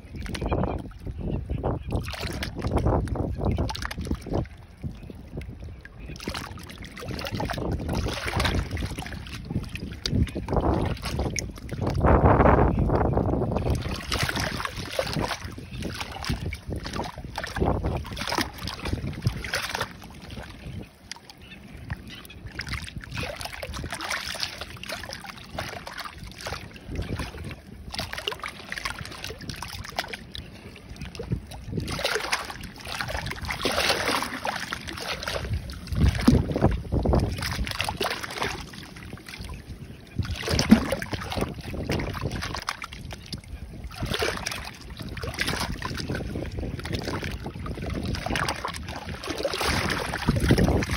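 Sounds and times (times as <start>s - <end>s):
small waves sloshing in seawall crack: 5.3s - 12.2s, 13.6s - 21.6s, 22.2s - 50.9s.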